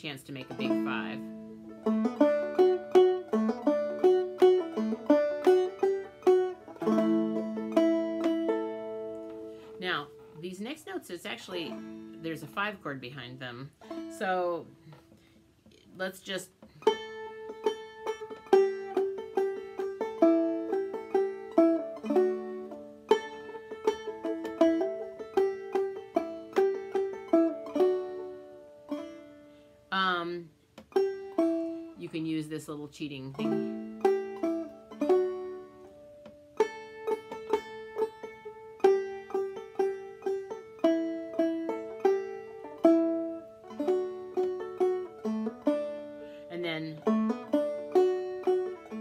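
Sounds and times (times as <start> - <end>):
banjo plucking and strumming: 0.0 - 49.0.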